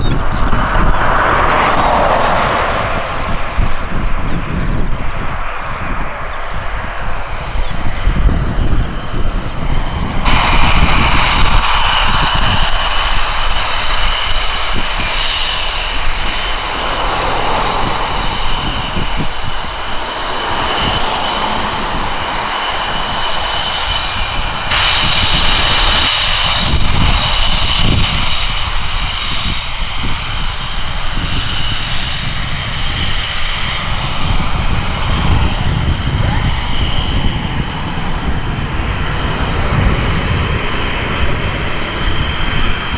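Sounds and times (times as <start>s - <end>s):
high turbine whine: 0.0s - 42.9s
jet engine roar: 0.0s - 42.9s.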